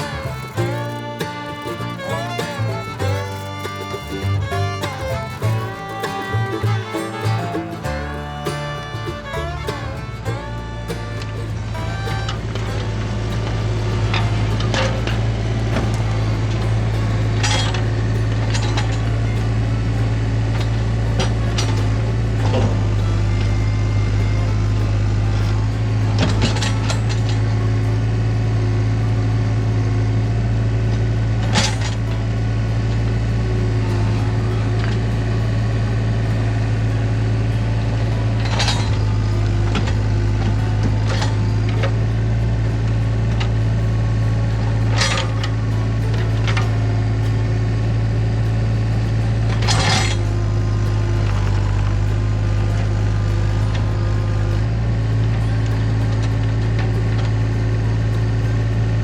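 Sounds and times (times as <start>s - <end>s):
earthmoving machine engine running: 0.0s - 59.0s.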